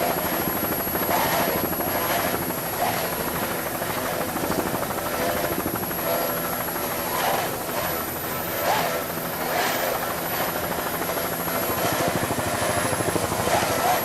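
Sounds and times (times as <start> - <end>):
powerful engines running: 0.0 - 14.0
thin high whine: 0.0 - 14.0.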